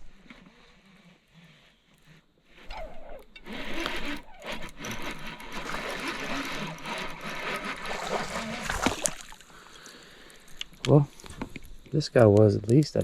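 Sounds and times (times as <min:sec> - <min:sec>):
fishing reel whirring: 0:00.1 - 0:10.6.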